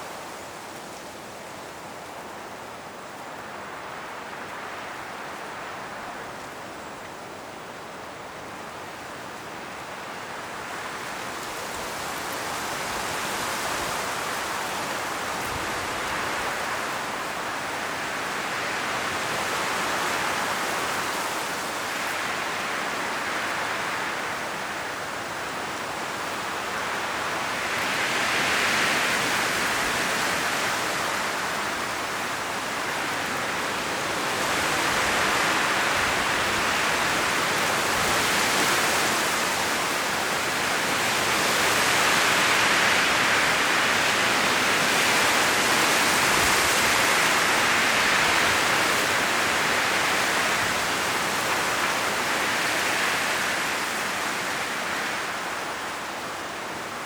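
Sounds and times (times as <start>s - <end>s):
strong wind rustling dry leaves: 0.0s - 57.0s.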